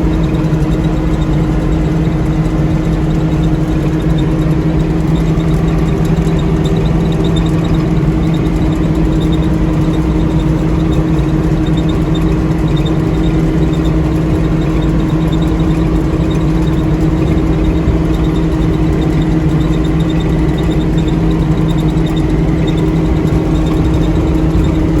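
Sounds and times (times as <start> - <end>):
combine harvester engine running: 0.0 - 25.0.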